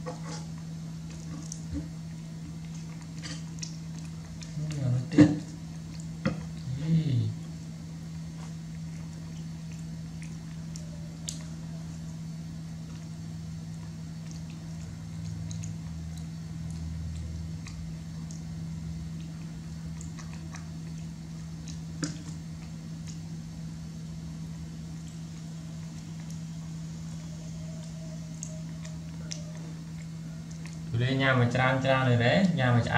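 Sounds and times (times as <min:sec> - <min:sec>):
chewing: 0:00.0 - 0:06.8, 0:07.4 - 0:23.6, 0:24.6 - 0:31.0
steady low hum: 0:00.0 - 0:32.9.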